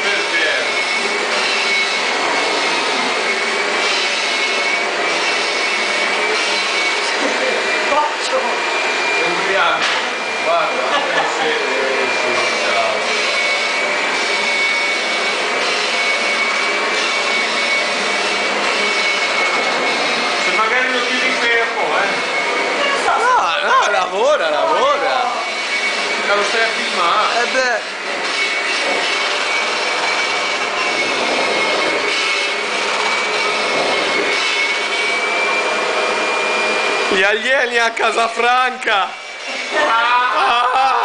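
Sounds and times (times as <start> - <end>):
vacuum cleaner running: 0.0 - 41.0.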